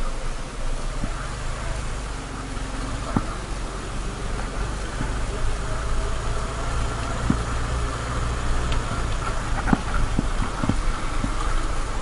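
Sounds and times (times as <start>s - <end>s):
motorcycle engine running: 0.0s - 12.0s
motorcycle tyres on gravel: 0.0s - 12.0s.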